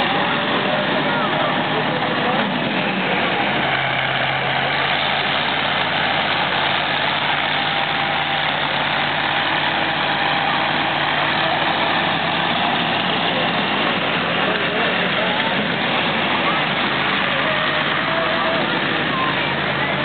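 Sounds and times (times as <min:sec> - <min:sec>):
engine-driven machinery running: 0:00.0 - 0:20.0.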